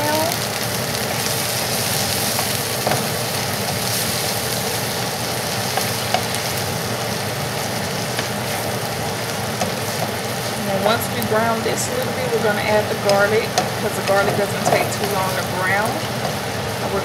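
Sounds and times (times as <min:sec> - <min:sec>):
onions sizzling in butter: 0:00.0 - 0:17.0.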